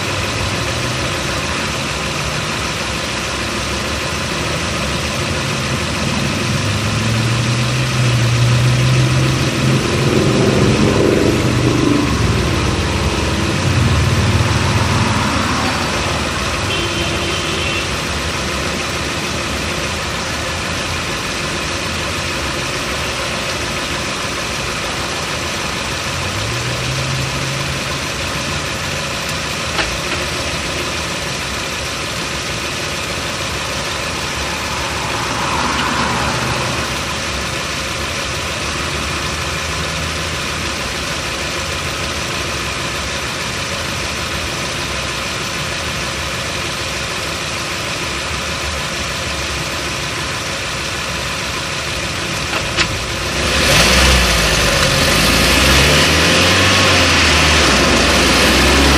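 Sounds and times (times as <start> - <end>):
car engine running: 0.0 - 58.9
road noise: 0.0 - 58.9.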